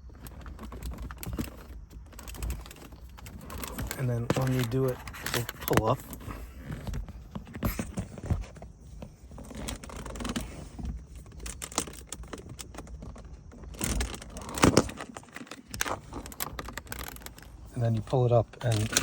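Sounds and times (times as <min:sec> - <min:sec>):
plastic trim clicking and creaking: 0:00.1 - 0:19.0.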